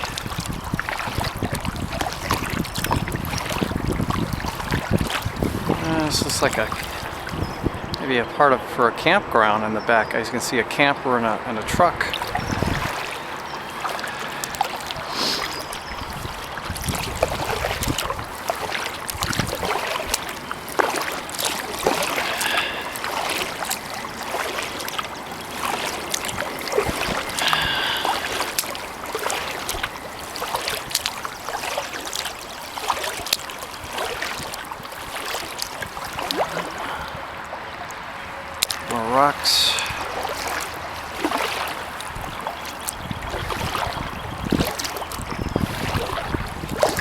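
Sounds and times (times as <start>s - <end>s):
paddle splashing in water: 0.0s - 8.2s, 11.2s - 47.0s
water dripping off paddle: 0.0s - 8.2s, 12.0s - 47.0s.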